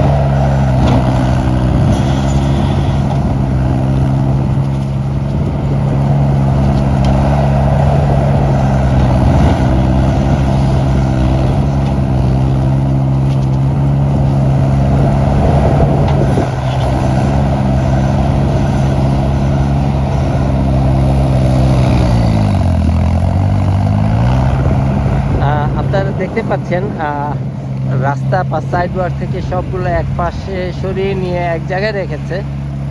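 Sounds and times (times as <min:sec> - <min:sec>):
loader engine at high revs: 0:00.0 - 0:32.9.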